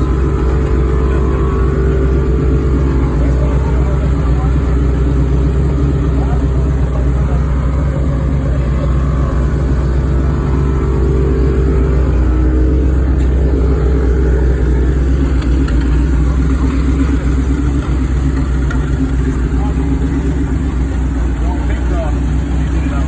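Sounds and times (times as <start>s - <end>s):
car engine running with exhaust leak: 0.0s - 23.0s.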